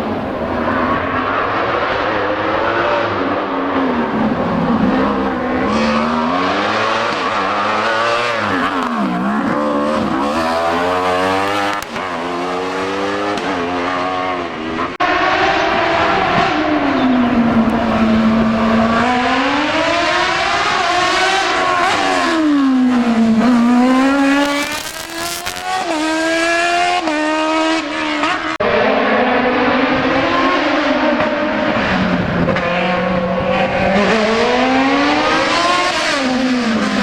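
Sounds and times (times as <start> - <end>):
racing car engine revving: 0.1 - 37.0.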